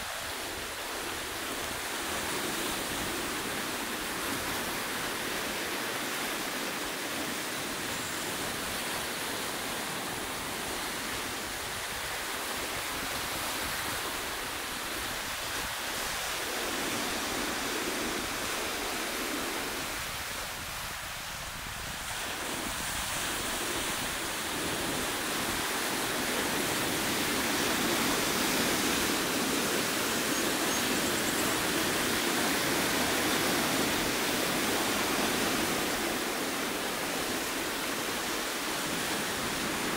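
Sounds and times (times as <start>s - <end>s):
ocean surf breaking on rocks: 0.0s - 39.9s.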